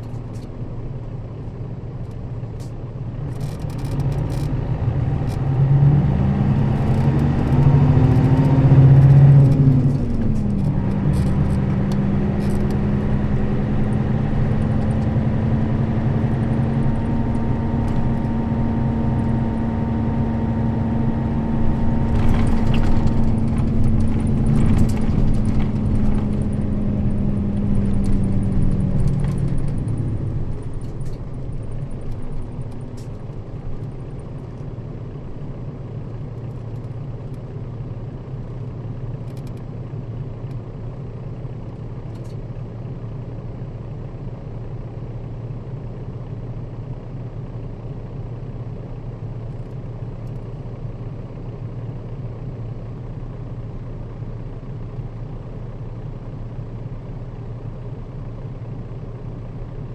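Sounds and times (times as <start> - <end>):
humming drivetrain tone: 0.0 - 59.9
low engine hum: 0.0 - 59.9.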